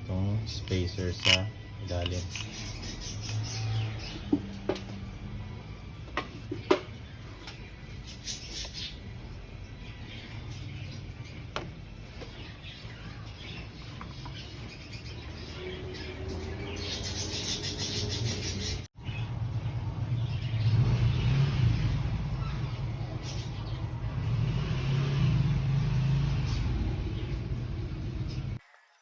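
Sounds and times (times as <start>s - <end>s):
birds chirping: 0.0s - 28.6s
motor vehicle rumble: 0.0s - 28.6s.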